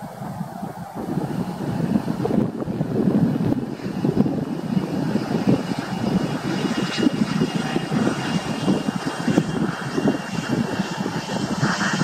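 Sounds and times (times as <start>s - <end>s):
distant jet plane taxiing: 0.0s - 12.0s
faint high engine whine: 0.0s - 12.0s.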